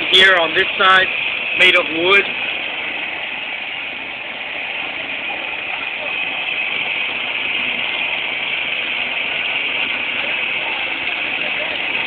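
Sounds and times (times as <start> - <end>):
compactor engine droning: 0.0 - 12.0.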